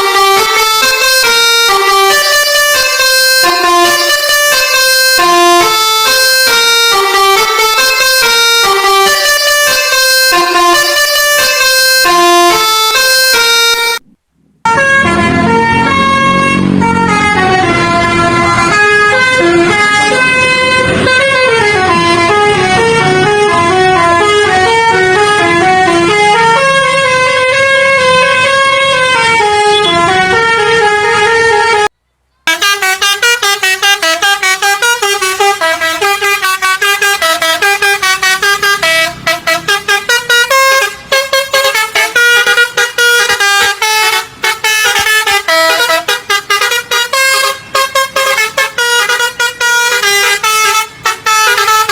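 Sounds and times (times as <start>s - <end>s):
multi-tone bus horn melody: 0.0s - 51.9s.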